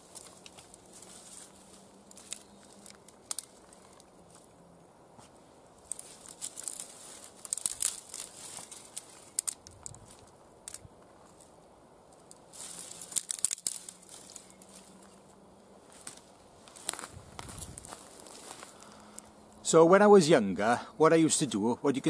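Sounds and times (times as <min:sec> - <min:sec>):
dry twigs snapping and crackling: 0:00.0 - 0:04.5, 0:05.8 - 0:19.6.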